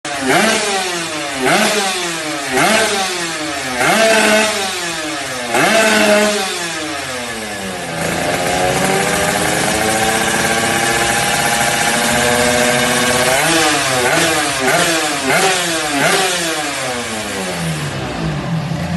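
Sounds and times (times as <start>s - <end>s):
two-stroke engine revving and idling: 0.0s - 18.9s.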